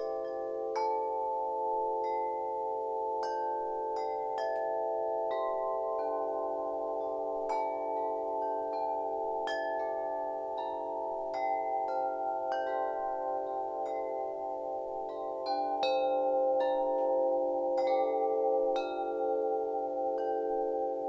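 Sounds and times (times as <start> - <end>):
wind chimes ringing: 0.0 - 21.0.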